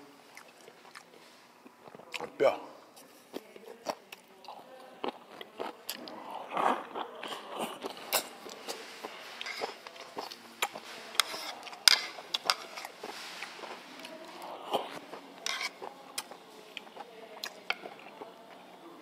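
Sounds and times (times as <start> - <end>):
wet chewing: 0.3 - 18.9.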